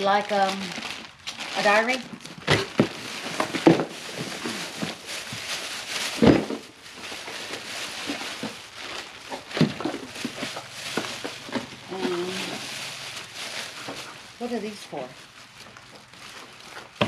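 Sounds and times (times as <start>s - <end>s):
plastic bags and cardboard rustling: 0.0s - 17.0s.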